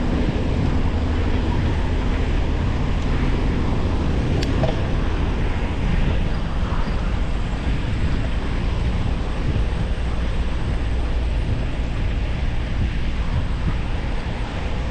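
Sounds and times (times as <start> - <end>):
wind rushing over microphone: 0.0 - 14.9.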